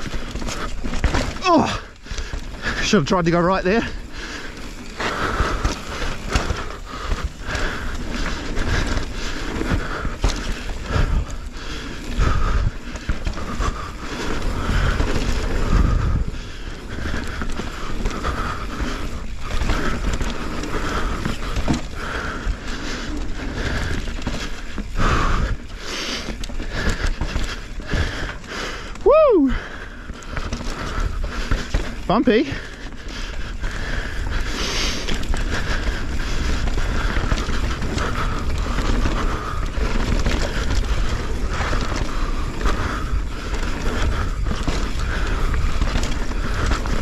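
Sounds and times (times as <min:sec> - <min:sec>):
bike rattling and knocking: 0:00.0 - 0:47.0
bike tyres rolling on dirt: 0:00.0 - 0:47.0.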